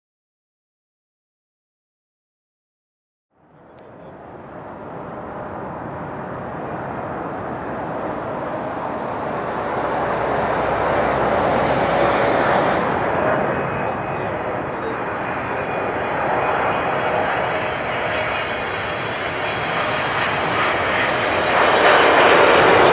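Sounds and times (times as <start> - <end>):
jet engine roar: 3.4 - 22.9.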